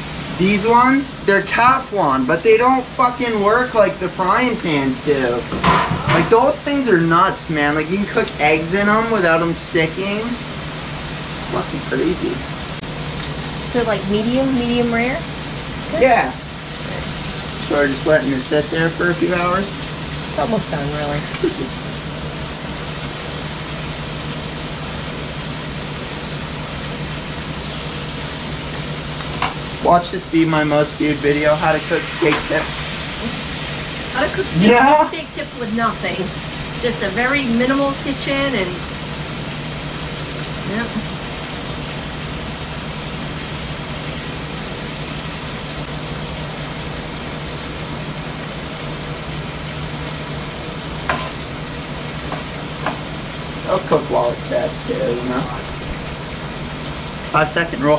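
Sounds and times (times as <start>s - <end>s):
electric fan humming: 0.0s - 57.9s
meat sizzling in a frying pan: 0.0s - 57.9s.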